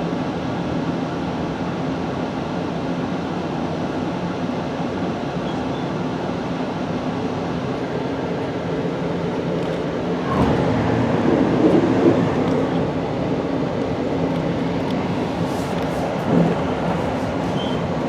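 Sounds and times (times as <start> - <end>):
passenger train running: 0.0 - 18.0.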